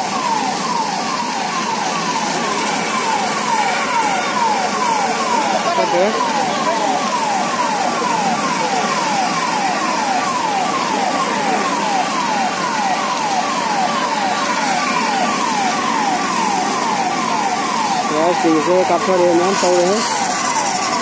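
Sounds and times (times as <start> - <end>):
siren yelping: 0.0 - 21.0.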